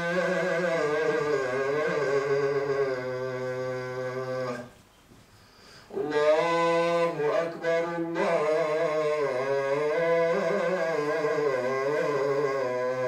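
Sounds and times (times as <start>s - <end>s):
man chanting call to prayer: 0.0s - 4.7s, 5.9s - 13.0s.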